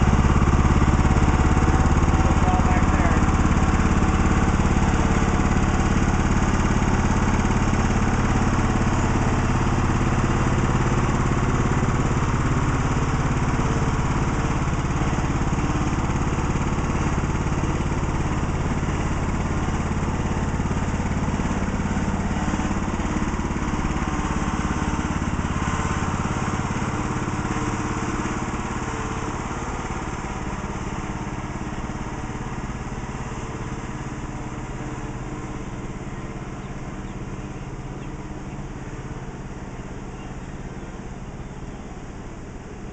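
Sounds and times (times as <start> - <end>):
lawn tractor engine running: 0.0 - 42.9.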